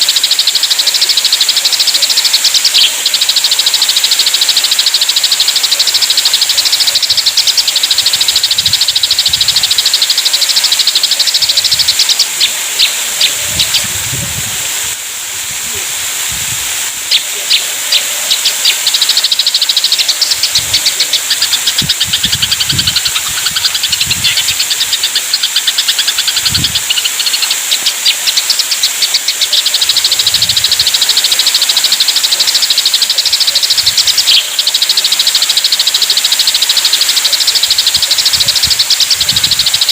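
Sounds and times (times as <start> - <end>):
sparrows chattering: 0.0 - 39.9
steady high hiss: 0.0 - 39.9.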